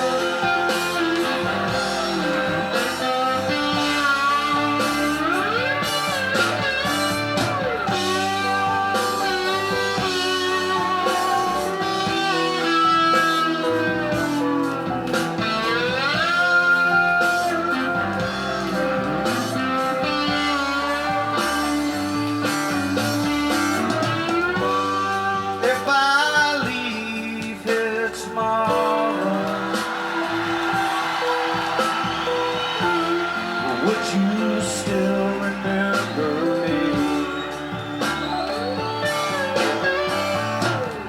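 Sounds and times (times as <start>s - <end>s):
slide guitar melody: 0.0s - 41.0s.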